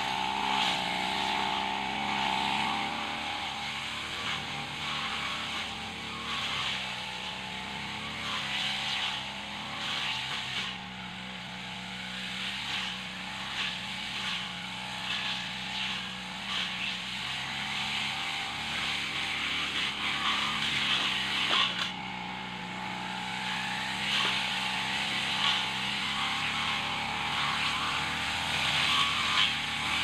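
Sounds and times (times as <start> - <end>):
brush cutter engine running: 0.0 - 30.0.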